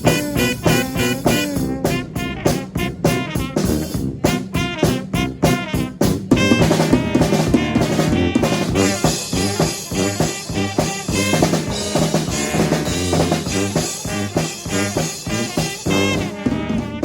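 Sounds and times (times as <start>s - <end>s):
brass band playing: 0.0s - 17.0s
drum kit: 0.0s - 17.0s.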